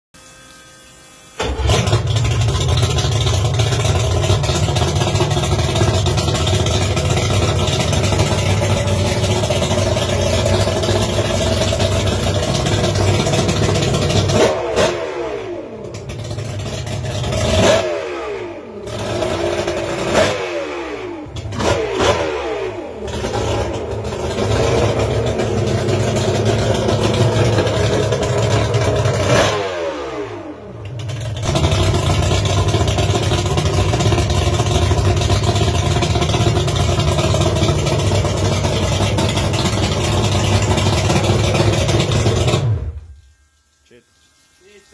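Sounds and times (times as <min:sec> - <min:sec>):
outboard engine revving: 0:01.4 - 0:43.0.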